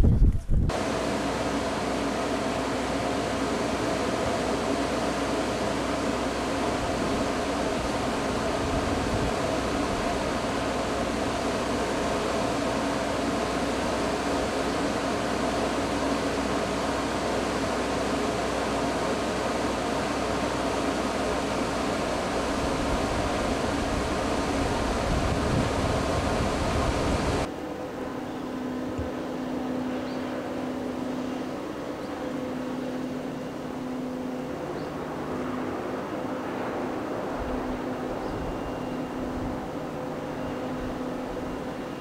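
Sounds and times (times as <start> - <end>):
machine-like hum with tones: 0.0 - 42.0.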